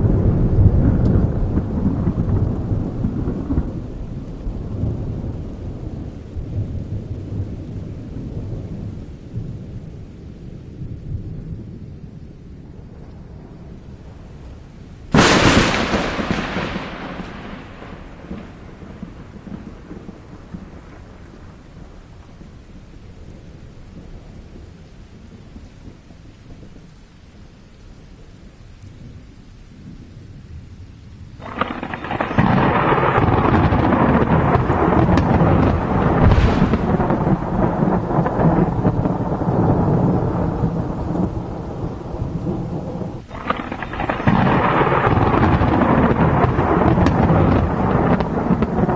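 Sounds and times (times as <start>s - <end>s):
thunderclap rumbling: 0.0s - 24.7s, 31.2s - 48.9s
heavy rain rushing: 0.0s - 48.9s
rain falling: 0.0s - 48.9s.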